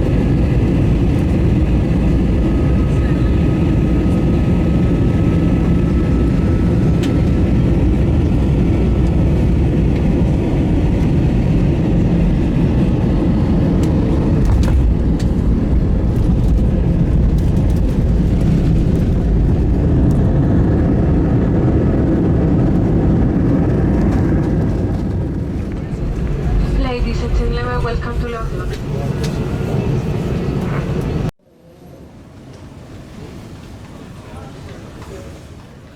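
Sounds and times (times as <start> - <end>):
aircraft engines rumbling: 0.0 - 35.9.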